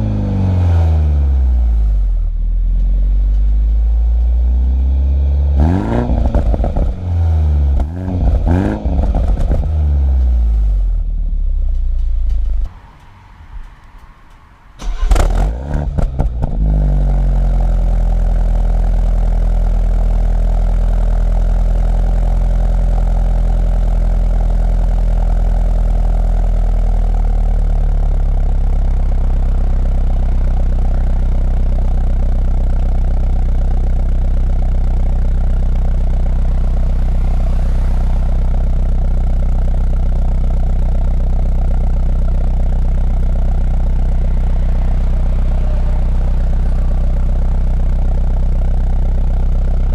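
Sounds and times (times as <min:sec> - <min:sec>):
car engine starting and idling: 0:00.0 - 0:49.9.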